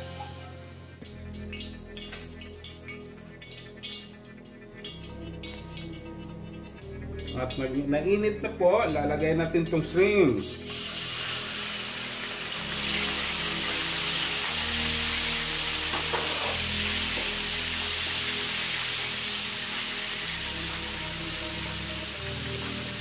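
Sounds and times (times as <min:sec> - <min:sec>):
shrimp sizzling in hot oil: 0:00.0 - 0:07.8, 0:09.7 - 0:23.0.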